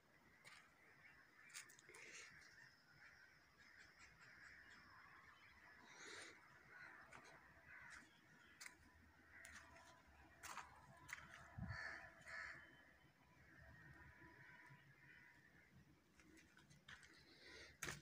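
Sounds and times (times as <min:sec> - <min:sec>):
distant bird calls: 0:00.0 - 0:18.0.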